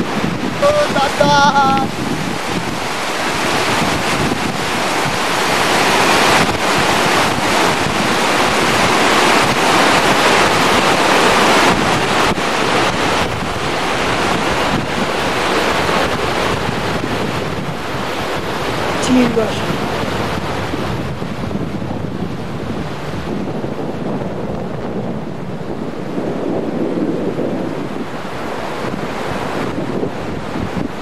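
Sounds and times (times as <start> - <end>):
stream rushing over stones: 0.0 - 31.0
wind buffeting microphone: 0.0 - 31.0.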